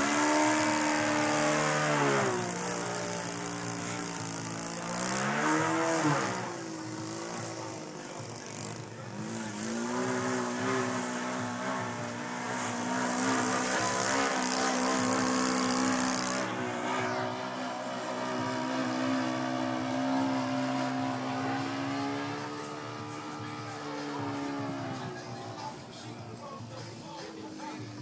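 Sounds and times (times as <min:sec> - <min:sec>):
model airplane engine droning: 0:00.0 - 0:25.2.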